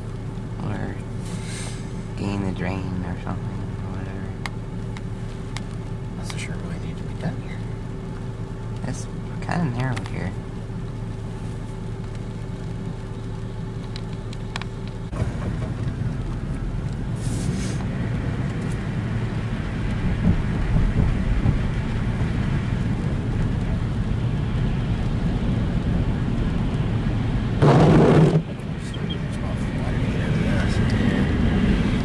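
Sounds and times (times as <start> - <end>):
car driving on wet road: 0.0 - 32.0.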